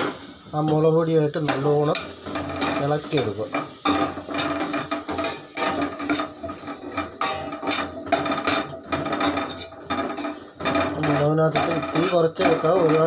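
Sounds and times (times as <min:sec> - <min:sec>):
spoon scraping a metal pot: 0:01.5 - 0:13.0.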